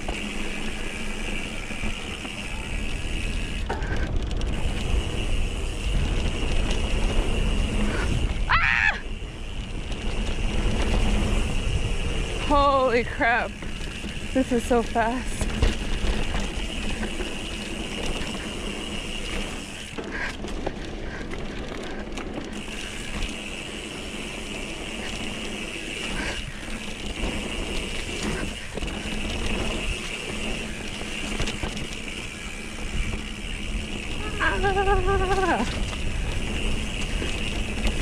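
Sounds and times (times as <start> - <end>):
bike tyre rumble on dirt: 0.0 - 38.0.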